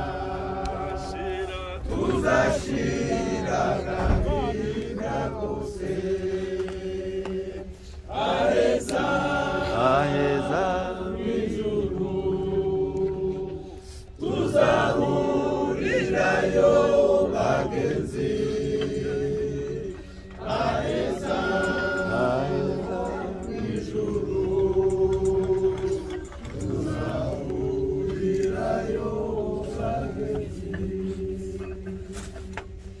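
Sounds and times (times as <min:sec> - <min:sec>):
group singing long held notes: 0:00.0 - 0:33.0.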